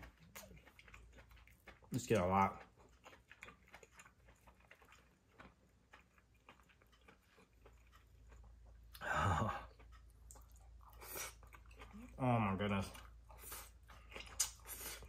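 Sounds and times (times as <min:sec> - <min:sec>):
person chewing softly: 0:00.0 - 0:15.0.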